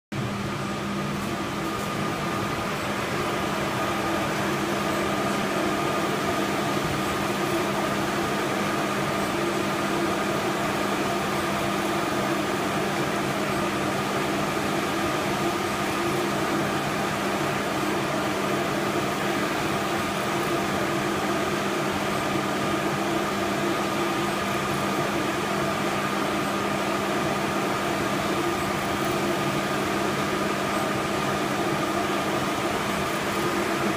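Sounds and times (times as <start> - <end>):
printer fans and motors droning: 0.2 - 33.9.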